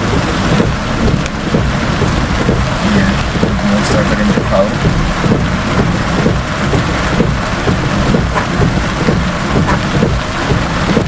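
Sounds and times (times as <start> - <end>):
car low rumble: 0.0 - 11.0
heavy rain on a car: 0.0 - 11.0.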